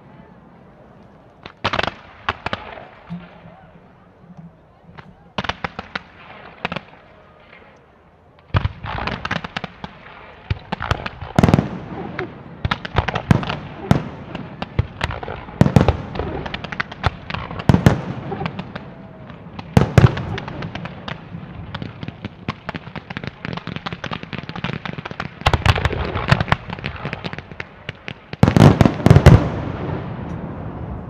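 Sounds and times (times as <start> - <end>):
fireworks bangs and crackling: 1.4 - 7.8, 8.4 - 31.0.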